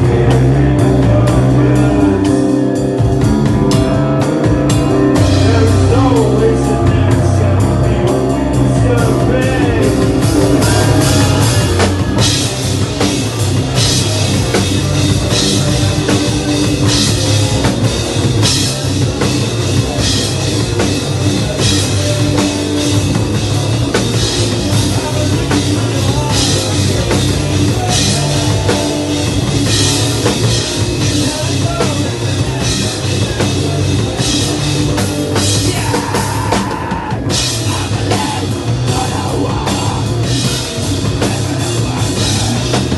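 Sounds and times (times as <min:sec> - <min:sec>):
live hardcore band playing: 0:00.0 - 0:42.9.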